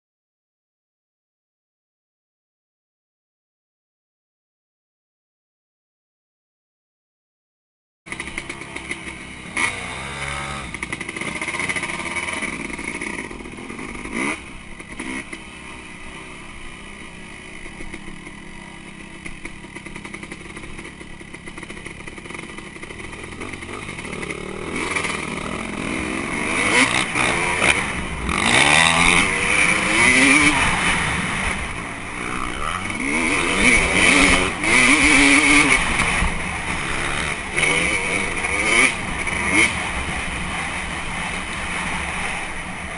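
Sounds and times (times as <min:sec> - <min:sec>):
dirt bike engine revving: 0:08.1 - 0:42.9.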